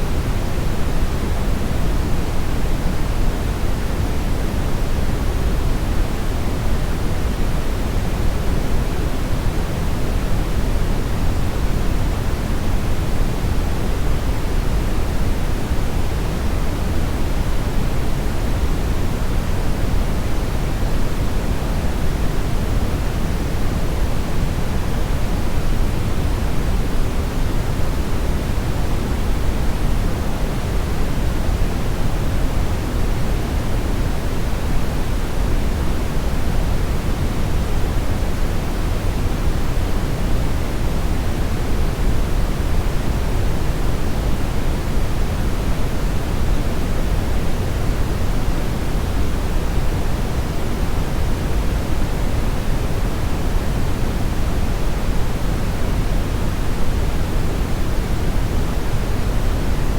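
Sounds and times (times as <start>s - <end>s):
low brown noise hiss: 0.0s - 59.9s.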